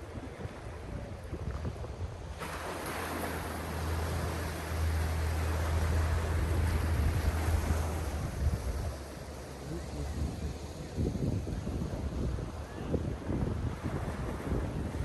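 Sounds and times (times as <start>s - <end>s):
sea waves washing onto shore: 0.0s - 15.0s
wind rumbling on microphone: 0.0s - 15.0s.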